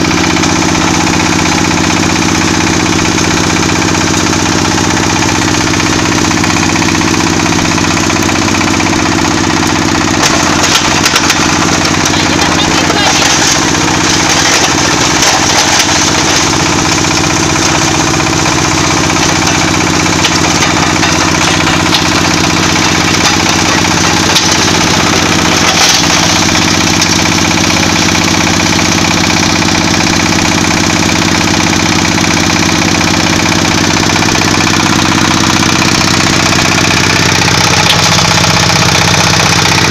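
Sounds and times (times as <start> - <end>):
crusher clattering: 0.0 - 31.1, 32.4 - 39.9
diesel engine running: 0.0 - 39.9.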